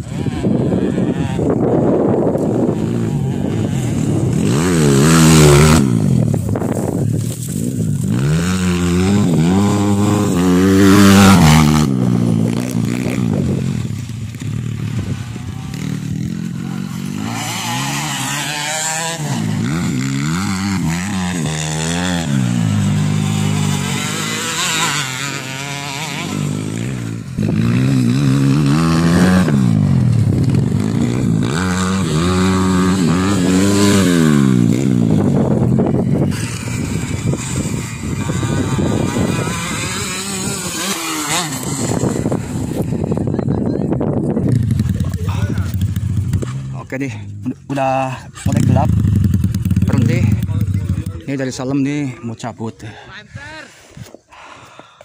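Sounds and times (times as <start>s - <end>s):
dirt bikes revving: 0.0s - 55.0s.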